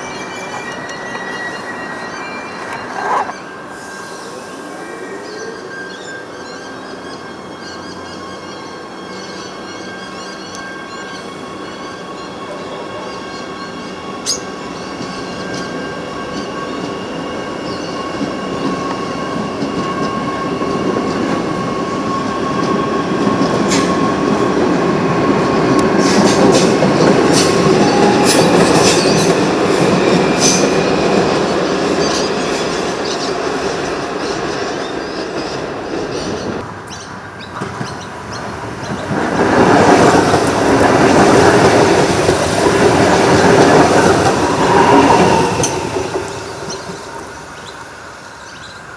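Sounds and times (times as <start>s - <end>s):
electric train whine: 0.0s - 48.9s
train passing with wheel noise: 0.0s - 48.9s.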